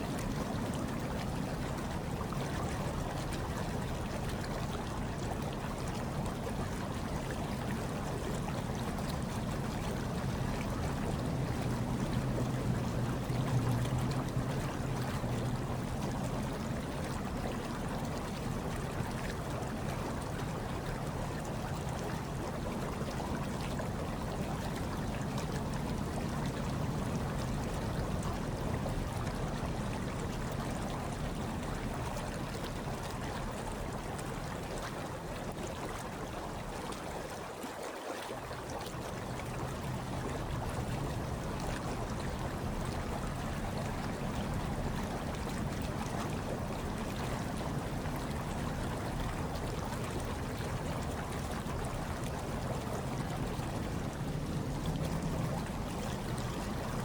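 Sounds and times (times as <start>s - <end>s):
hot tub water bubbling: 0.0s - 57.0s.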